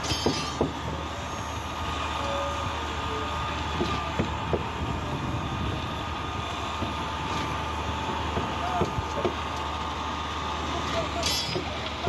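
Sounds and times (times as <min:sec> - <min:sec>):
concrete pump droning: 0:00.0 - 0:12.0.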